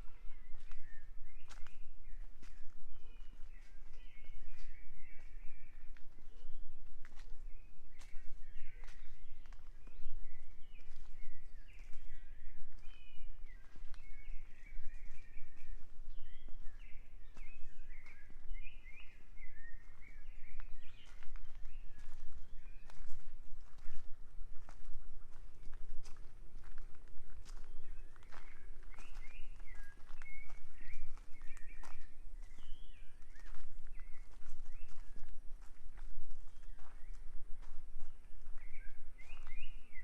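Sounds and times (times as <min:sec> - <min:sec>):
birds chirping: 0:00.0 - 0:40.0
footsteps on forest trail: 0:00.0 - 0:40.0.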